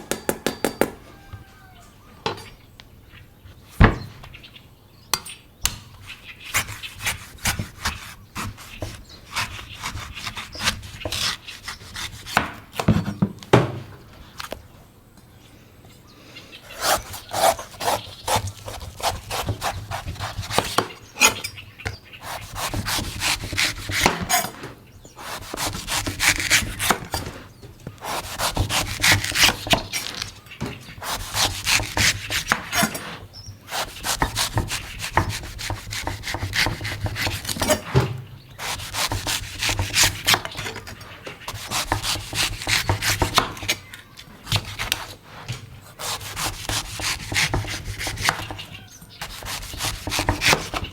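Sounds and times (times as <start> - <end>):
knife scraping coconut: 5.9 - 13.2, 16.6 - 38.0, 38.6 - 50.9.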